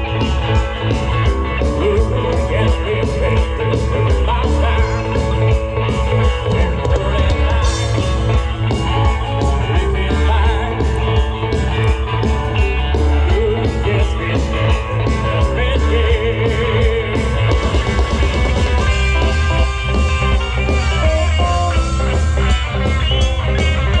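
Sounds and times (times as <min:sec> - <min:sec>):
live rock band: 0:00.0 - 0:24.0.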